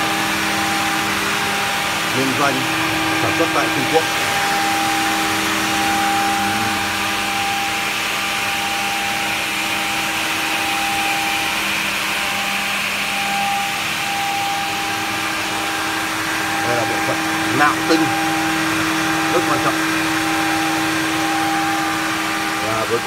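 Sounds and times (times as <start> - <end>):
high machine whine: 0.0 - 23.0
machine motors hissing and humming: 0.0 - 23.0.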